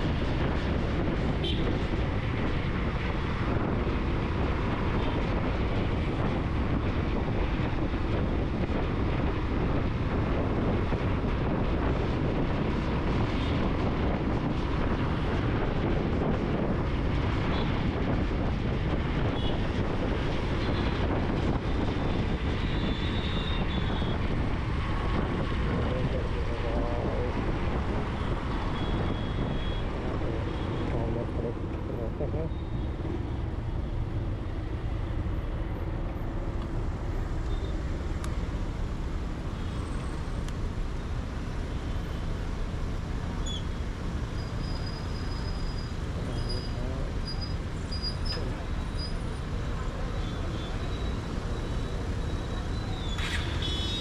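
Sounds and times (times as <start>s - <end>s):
wind rush: 0.0s - 44.3s
motorcycle road rumble: 0.0s - 54.0s.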